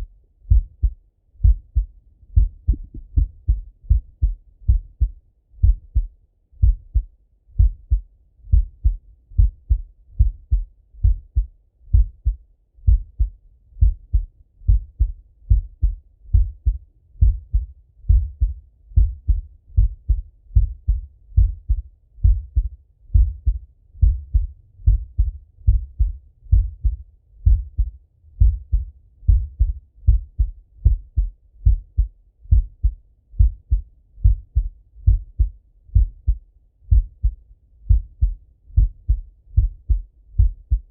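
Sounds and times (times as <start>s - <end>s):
heartbeat thuds: 0.0s - 40.9s.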